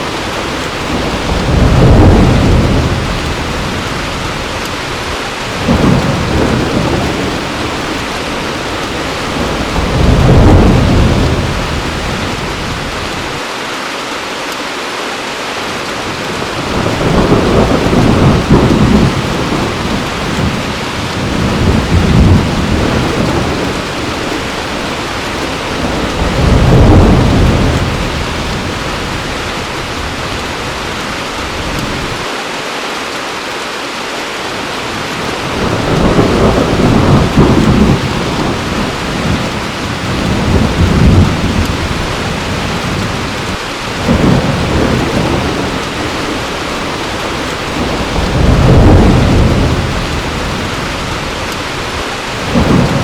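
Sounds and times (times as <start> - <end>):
thunder rumbling: 0.0 - 13.4, 16.1 - 32.2, 34.9 - 53.0
heavy rain pouring: 0.0 - 53.0.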